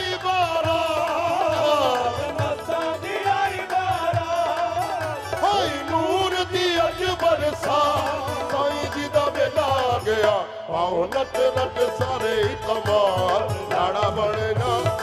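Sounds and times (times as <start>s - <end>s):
hand-drum beats: 0.0s - 15.0s
harmonium: 0.0s - 15.0s
lead singer with vibrato: 0.0s - 15.0s.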